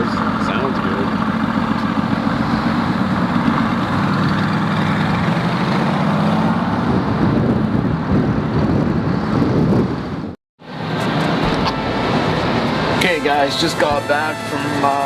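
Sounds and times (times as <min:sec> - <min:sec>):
car engine running at low revs: 0:00.0 - 0:13.4.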